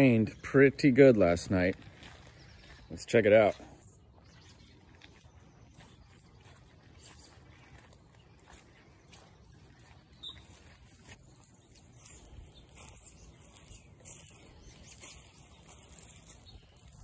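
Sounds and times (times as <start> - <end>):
footsteps on wet grass and leaves: 1.1 - 17.0.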